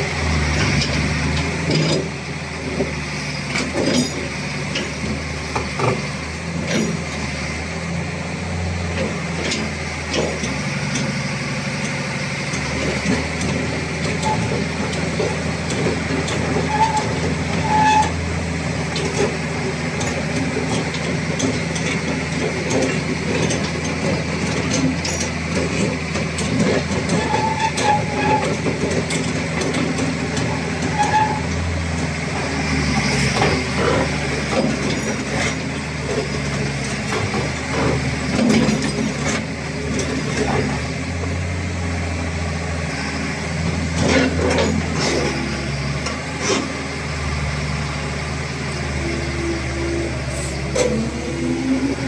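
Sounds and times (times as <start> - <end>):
excavator diesel engine under load: 0.0 - 52.0
clanks from steel tracks: 0.6 - 7.2, 11.8 - 40.9, 43.7 - 46.7, 49.0 - 52.0.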